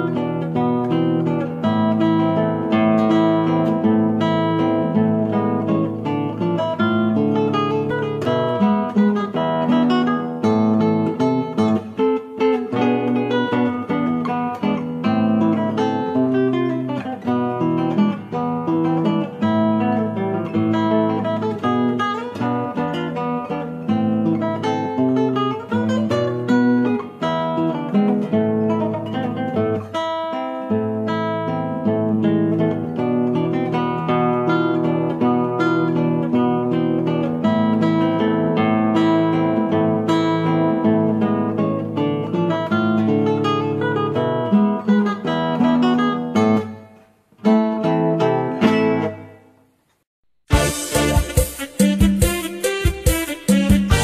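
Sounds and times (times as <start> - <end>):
acoustic guitar instrumental: 0.0 - 54.0.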